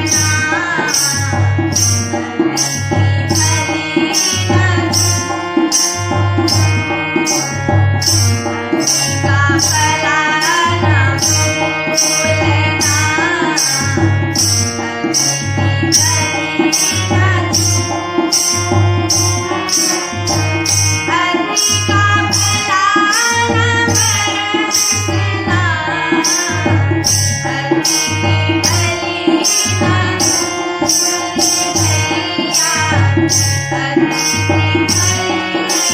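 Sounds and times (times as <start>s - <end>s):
ornamented melody line: 0.0s - 35.9s
tabla beat: 0.0s - 35.9s.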